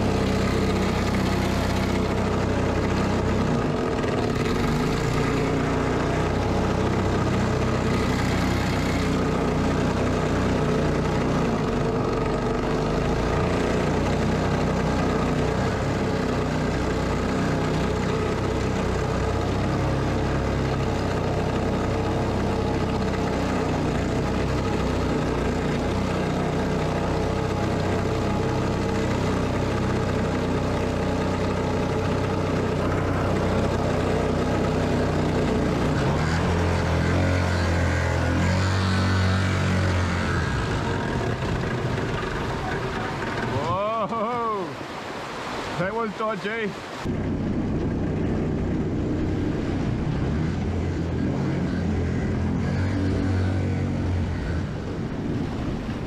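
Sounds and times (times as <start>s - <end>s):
small engine running steadily: 0.0s - 56.0s
water rushing along hull: 0.0s - 56.0s.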